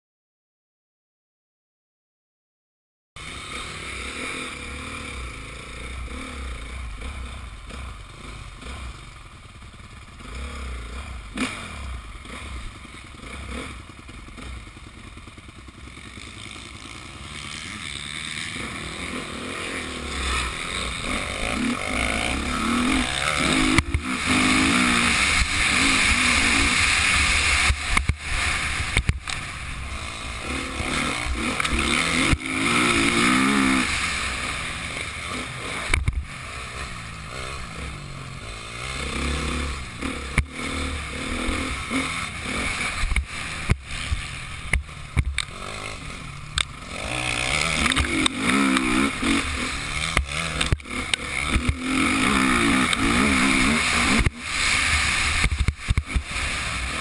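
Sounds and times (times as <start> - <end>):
motocross bike engine revving: 3.2 - 57.0.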